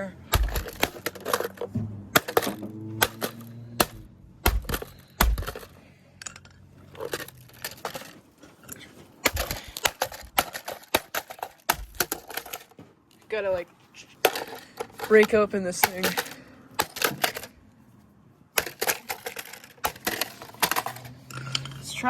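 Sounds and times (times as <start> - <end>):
plastic housing clicking and cracking: 0.3 - 12.8, 14.2 - 17.6, 18.6 - 22.0.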